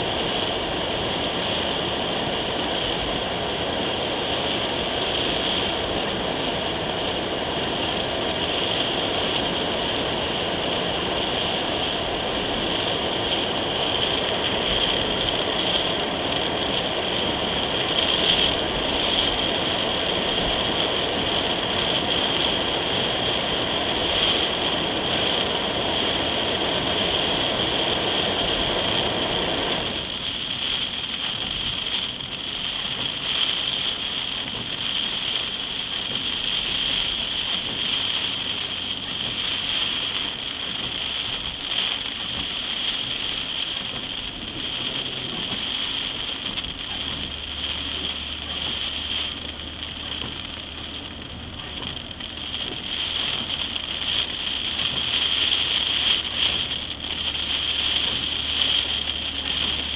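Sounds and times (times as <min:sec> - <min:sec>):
heavy rain on car roof: 0:00.0 - 0:59.9
low rumble: 0:02.6 - 0:59.9.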